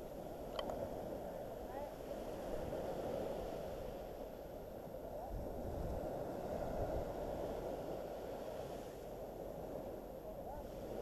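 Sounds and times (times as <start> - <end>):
waves washing onto sand: 0.0 - 11.0
wind buffeting microphone: 0.0 - 11.0.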